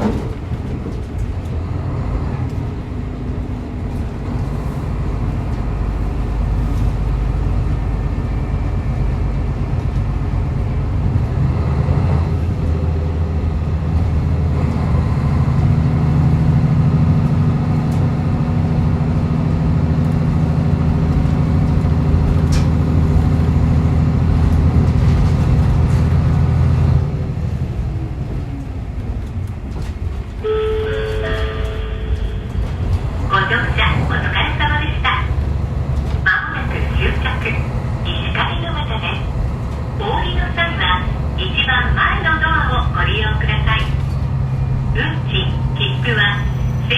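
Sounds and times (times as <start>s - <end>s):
diesel engine drone: 0.0s - 46.9s
rail noise: 0.0s - 46.9s.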